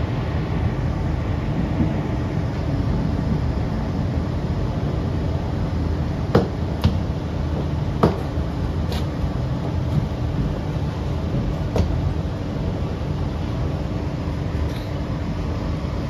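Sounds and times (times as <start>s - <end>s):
train rumble and hum: 0.0s - 16.0s.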